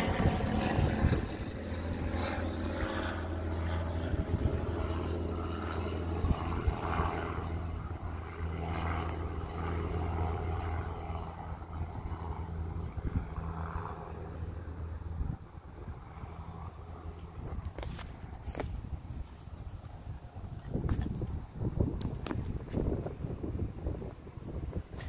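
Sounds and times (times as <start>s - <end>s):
low mechanical drone: 0.0s - 25.0s.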